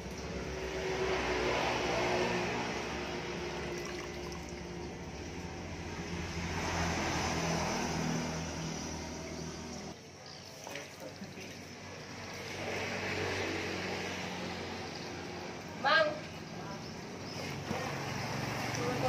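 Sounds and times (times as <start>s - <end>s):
vehicles passing on road: 0.0s - 10.0s, 11.5s - 19.0s.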